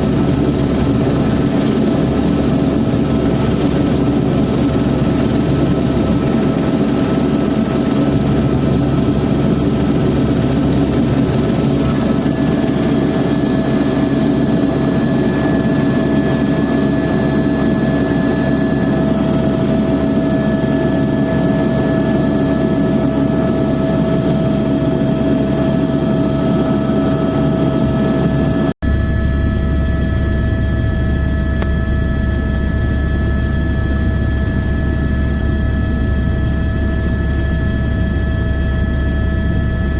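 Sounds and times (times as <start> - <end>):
helicopter engine and rotor drone: 0.0 - 39.9
helicopter whine: 0.0 - 39.9.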